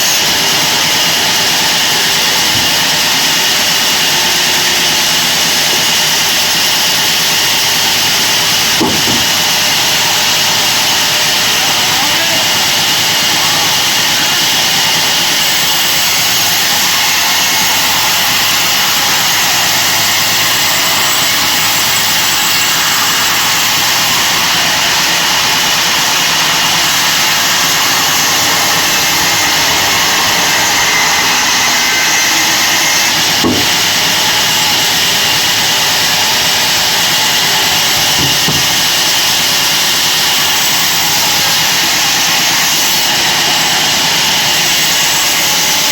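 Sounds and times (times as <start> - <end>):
bandsaw running with high whine: 0.0 - 45.9.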